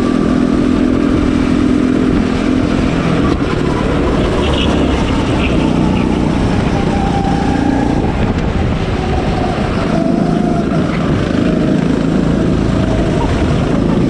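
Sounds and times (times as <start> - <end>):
go-kart motor drone: 0.0 - 14.0
wind buffeting microphone: 0.0 - 14.0.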